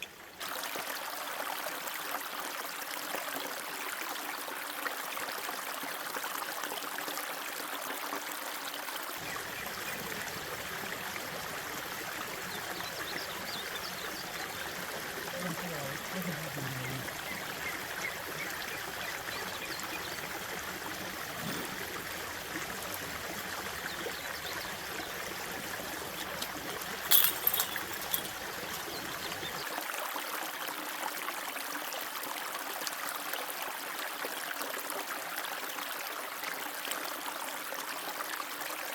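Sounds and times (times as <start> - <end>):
creek rushing over rocks: 0.0 - 38.9.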